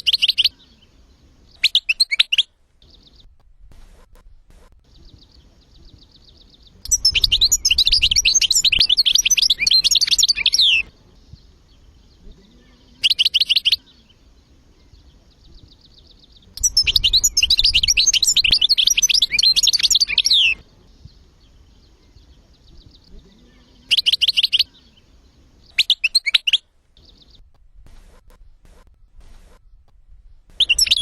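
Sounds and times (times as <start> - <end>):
faint bird trill: 0.0 - 3.3, 4.8 - 31.0
songbirds twittering: 0.0 - 31.0.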